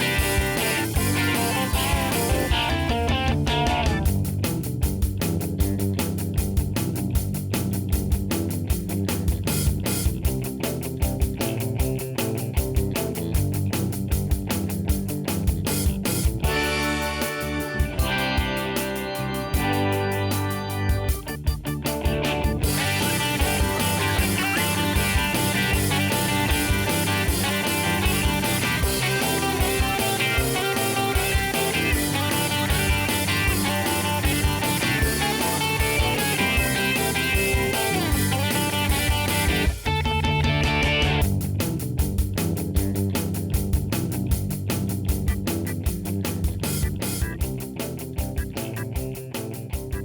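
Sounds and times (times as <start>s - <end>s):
rock music with guitar: 0.0s - 50.0s.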